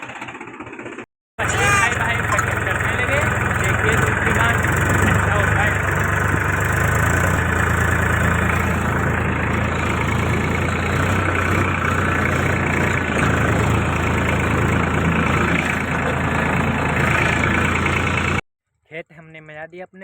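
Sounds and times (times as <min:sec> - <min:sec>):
tractor diesel engine running: 0:00.0 - 0:18.4.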